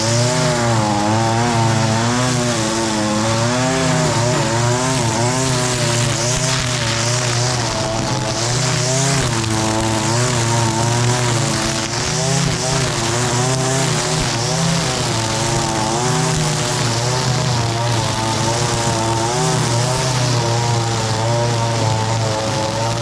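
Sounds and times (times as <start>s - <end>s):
line cutting grass hiss: 0.0s - 23.0s
string trimmer engine revving: 0.0s - 23.0s.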